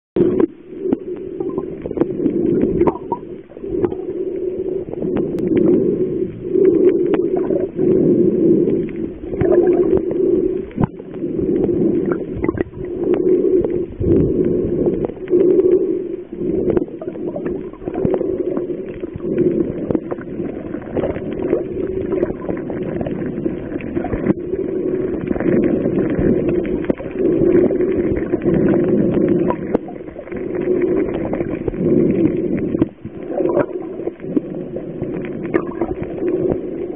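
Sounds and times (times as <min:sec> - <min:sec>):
muffled underwater rumble of water: 0:00.2 - 0:36.9.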